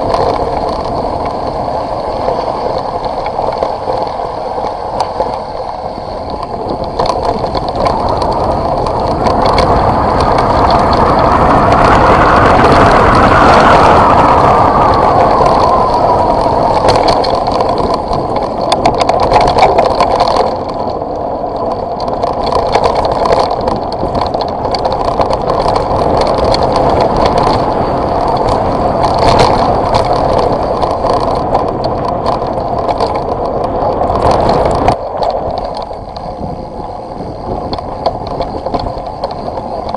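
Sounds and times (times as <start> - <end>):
tyres rattling over gravel: 0.0 - 39.9
wind rushing over microphone: 0.0 - 39.9.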